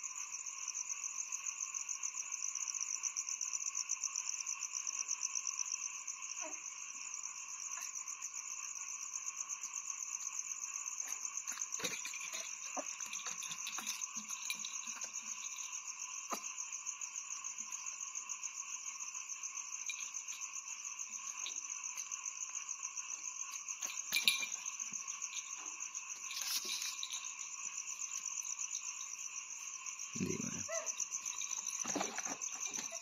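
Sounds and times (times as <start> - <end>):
insects and frogs calling: 0.0 - 33.0.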